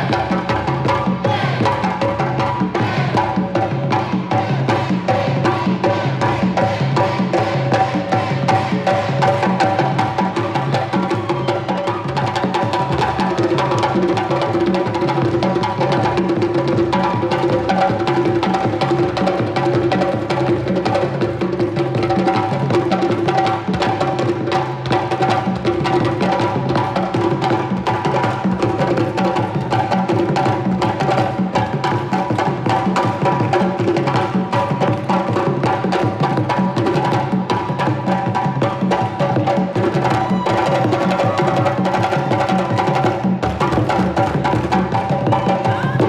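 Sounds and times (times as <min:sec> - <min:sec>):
drum ensemble playing: 0:00.0 - 0:46.0.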